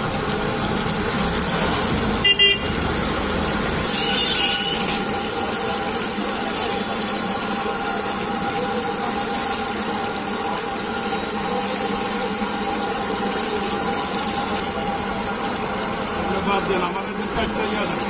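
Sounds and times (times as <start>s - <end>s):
oil sizzling on a griddle: 0.0s - 18.0s.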